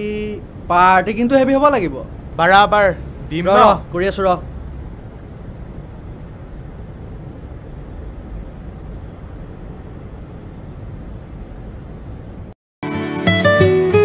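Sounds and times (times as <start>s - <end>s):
street background rumble: 0.0s - 12.5s.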